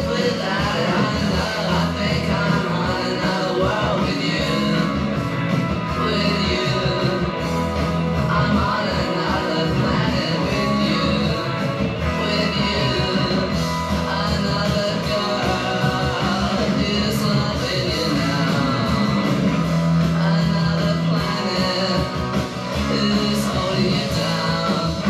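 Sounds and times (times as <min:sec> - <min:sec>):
song with guitar: 0:00.0 - 0:25.0.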